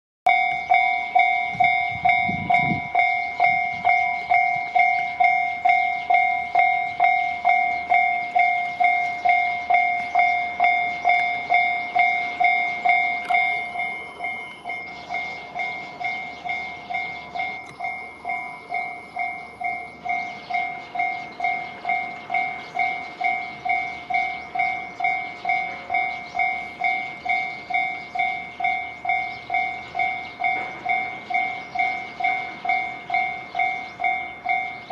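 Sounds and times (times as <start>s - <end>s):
level crossing warning bell: 0.3s - 34.9s.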